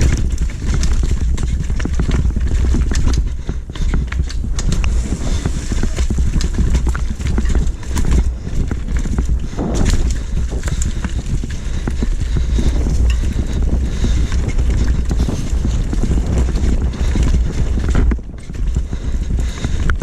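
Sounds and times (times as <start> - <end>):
bike rattles and knocks: 0.0 - 20.0
wind rumbling on microphone: 0.0 - 20.0.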